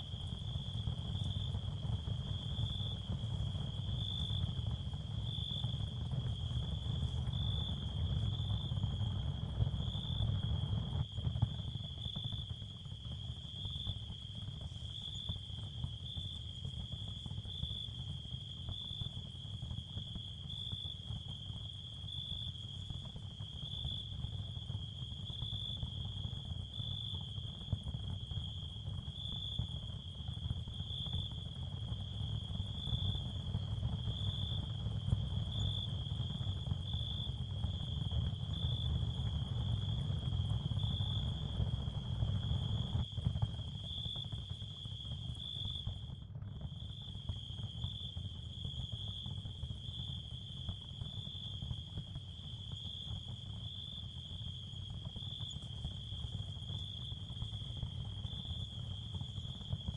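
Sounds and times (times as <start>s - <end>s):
crickets chirring: 11.0s - 41.7s, 42.3s - 59.8s.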